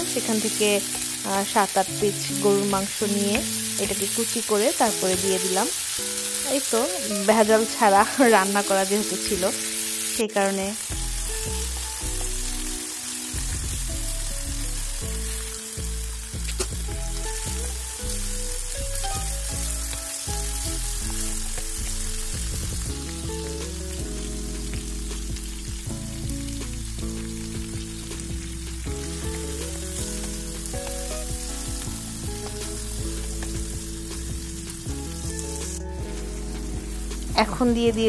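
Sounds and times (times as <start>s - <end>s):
background music: 0.0s - 38.0s
food sizzling in a frying pan: 0.0s - 38.0s.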